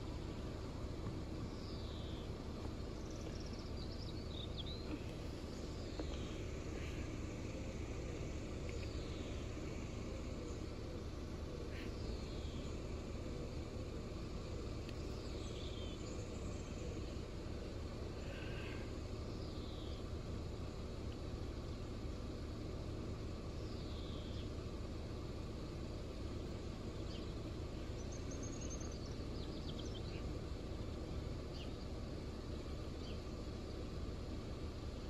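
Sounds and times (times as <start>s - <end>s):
birds calling: 0.0s - 35.0s
low background rumble: 0.0s - 35.0s.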